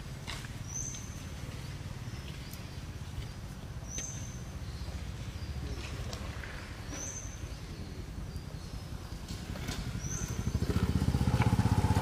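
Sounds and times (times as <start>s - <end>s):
low forest rumble: 0.0s - 12.0s.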